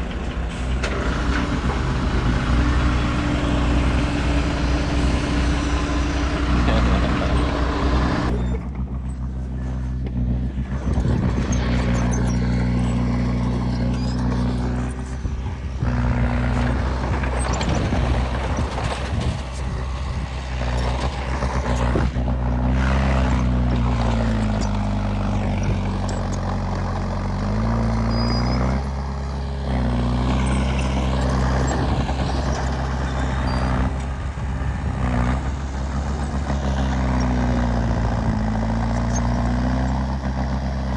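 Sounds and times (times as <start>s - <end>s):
bulldozer diesel engine under load: 0.0s - 40.9s.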